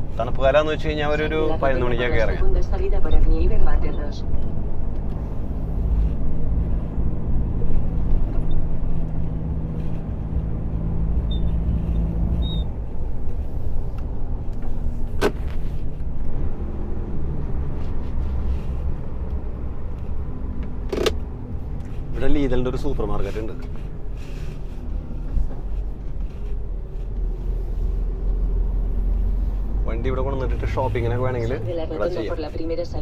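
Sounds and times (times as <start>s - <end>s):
truck diesel engine rumbling: 0.0s - 33.0s.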